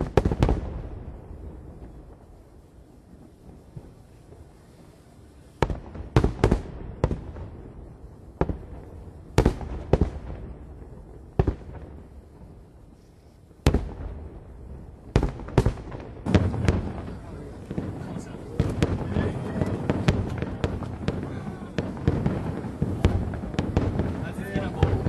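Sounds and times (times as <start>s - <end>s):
firework shells booming: 0.0s - 2.4s, 5.4s - 25.0s.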